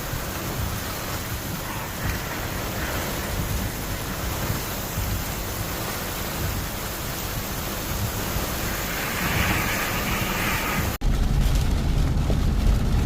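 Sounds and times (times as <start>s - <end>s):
heavy rain pouring: 0.0s - 13.0s
low rumble: 0.0s - 13.0s.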